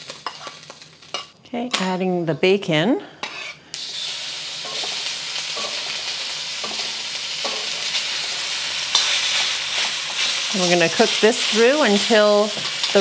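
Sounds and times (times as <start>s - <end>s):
bacon sizzling in wok: 0.0s - 1.4s, 3.2s - 13.0s.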